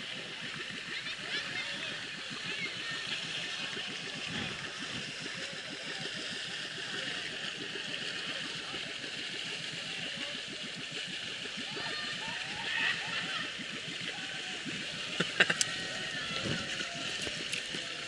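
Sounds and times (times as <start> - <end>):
boat engine running: 0.0 - 18.0
water rushing along hull: 0.0 - 18.0.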